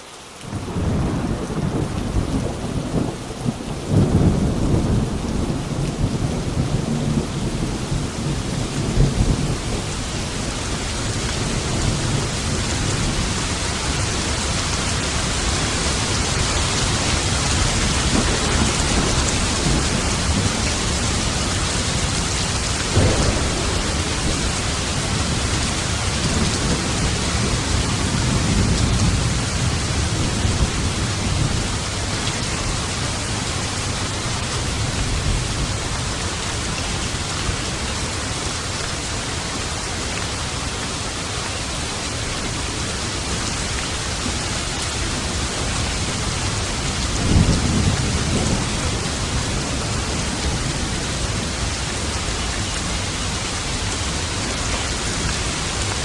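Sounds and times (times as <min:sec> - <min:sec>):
heavy rain hissing: 0:00.0 - 0:56.0
rolling thunder: 0:00.5 - 0:37.8, 0:44.0 - 0:56.0.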